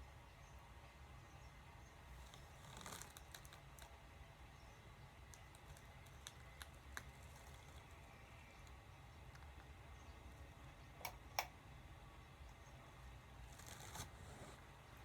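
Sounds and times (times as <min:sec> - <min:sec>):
ceiling fan humming: 0:00.0 - 0:15.0.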